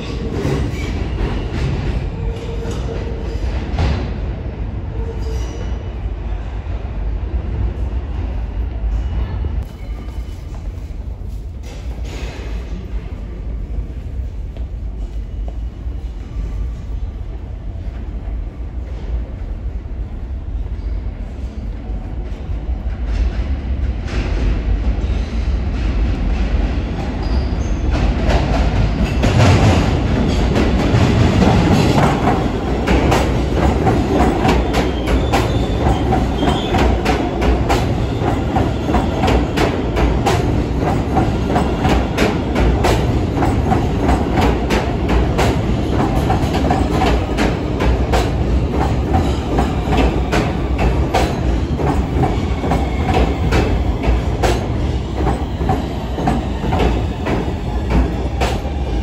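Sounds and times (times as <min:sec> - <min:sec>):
subway train rumble: 0:00.0 - 0:59.0.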